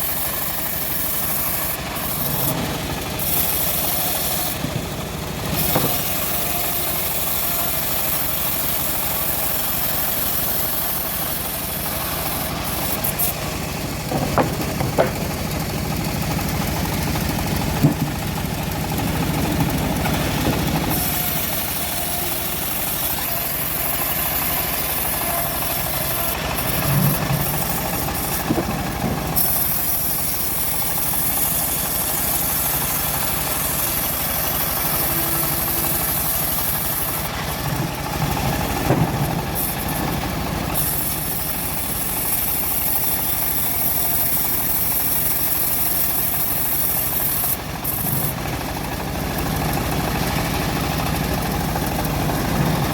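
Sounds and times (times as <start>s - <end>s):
bandsaw mill running: 0.0s - 52.9s
blade sawing through log: 0.0s - 52.9s.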